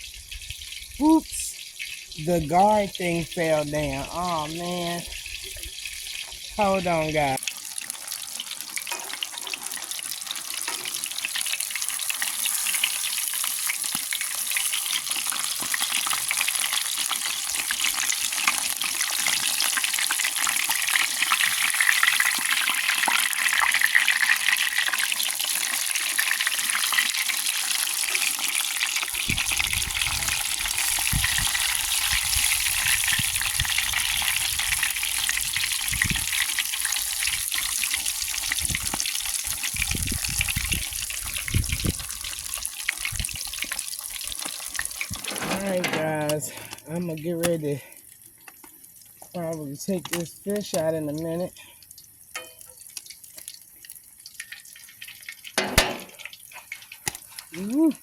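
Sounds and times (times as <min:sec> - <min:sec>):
fish frying in hot oil: 0:00.0 - 0:58.0.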